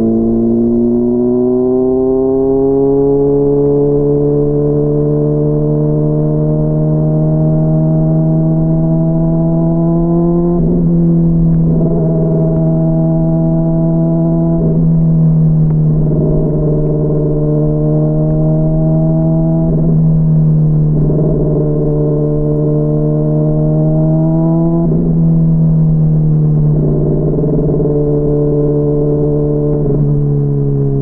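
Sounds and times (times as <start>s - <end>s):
muffled motorcycle engine: 0.0s - 31.0s.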